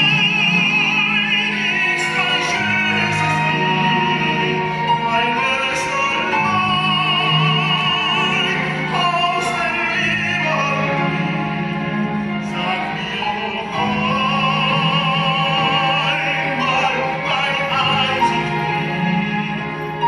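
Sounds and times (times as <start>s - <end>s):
operatic singing with vibrato: 0.0s - 20.0s
sustained instrumental accompaniment: 0.0s - 20.0s.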